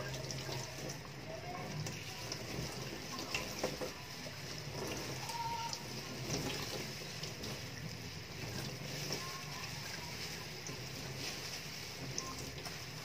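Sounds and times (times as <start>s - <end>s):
sponge squeezed and rinsed: 0.0s - 13.0s
tap water running into sink: 0.0s - 13.0s.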